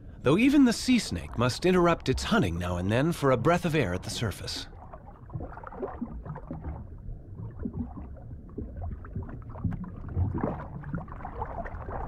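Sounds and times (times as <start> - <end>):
underwater gurgling and sloshing: 0.0 - 12.0.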